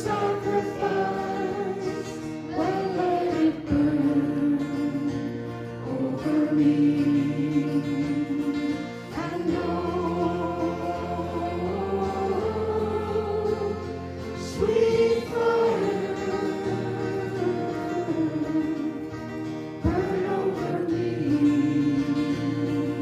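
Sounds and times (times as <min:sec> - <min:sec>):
group singing worship music: 0:00.0 - 0:23.0
sustained chords: 0:00.0 - 0:23.0.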